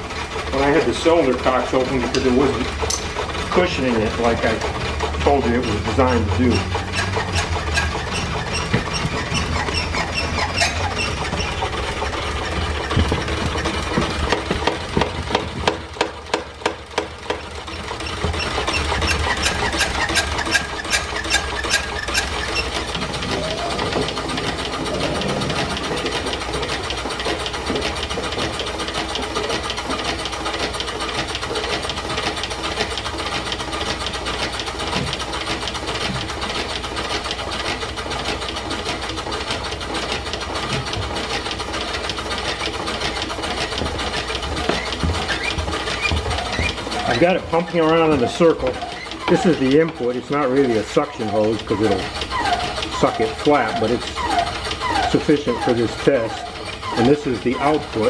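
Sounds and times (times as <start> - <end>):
steam pump pistons clicking and knocking: 0.0 - 58.0.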